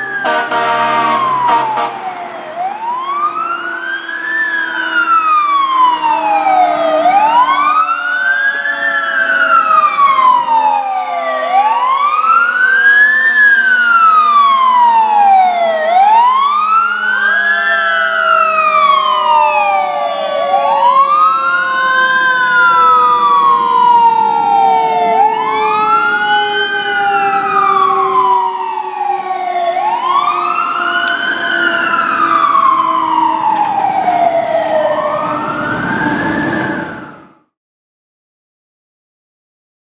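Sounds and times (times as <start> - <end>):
fire truck siren wailing: 0.0 - 37.6.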